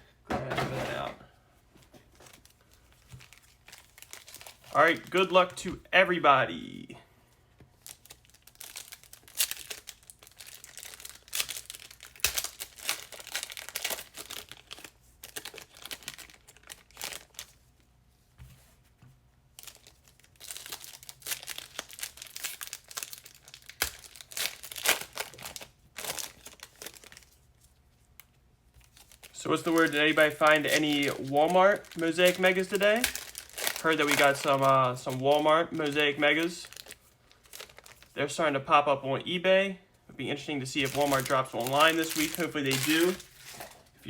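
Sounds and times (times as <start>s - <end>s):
foil wrappers crinkling and ripping: 2.1s - 5.8s, 7.8s - 17.8s, 19.5s - 38.2s, 40.7s - 44.0s.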